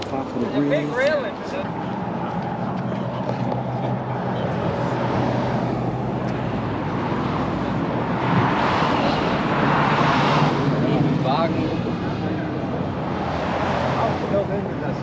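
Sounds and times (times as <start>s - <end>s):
highway traffic hum: 0.0s - 15.0s
vehicle passing: 0.0s - 15.0s.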